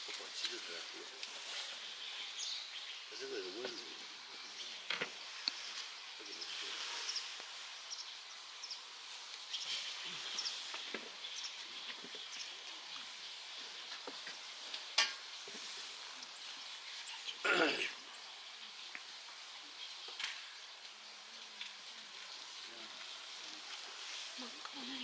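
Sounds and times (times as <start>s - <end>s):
crackling rustle: 0.0s - 25.0s
steady hiss: 0.0s - 25.0s.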